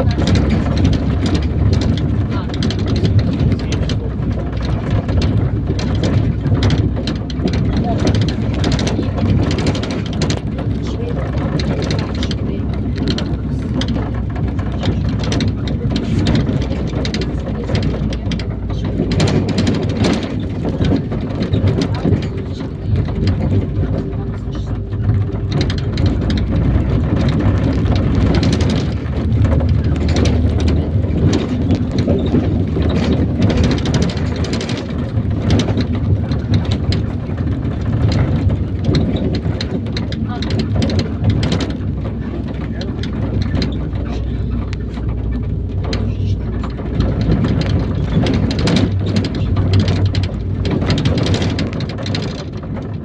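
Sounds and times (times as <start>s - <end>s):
bus engine running: 0.0s - 53.0s
road noise: 0.0s - 53.0s
small knocks and rattles: 0.0s - 53.0s.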